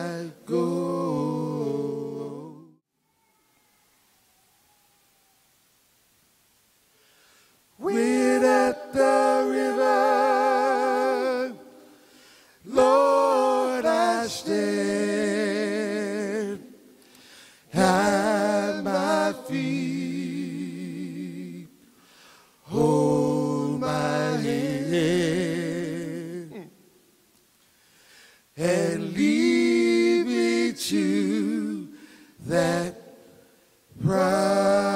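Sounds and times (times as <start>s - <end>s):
male vocal group singing a cappella: 0.0s - 2.8s, 7.8s - 26.8s, 28.5s - 34.9s.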